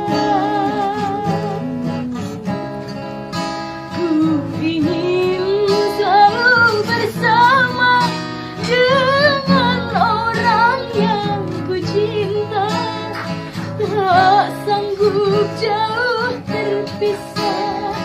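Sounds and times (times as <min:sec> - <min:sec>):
acoustic guitar: 0:00.0 - 0:18.0
woman singing with vibrato: 0:00.0 - 0:18.0.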